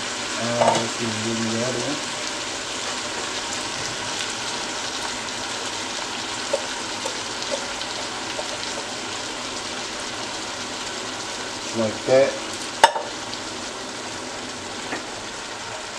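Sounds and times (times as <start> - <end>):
meat sizzling in a pot: 0.0 - 15.9.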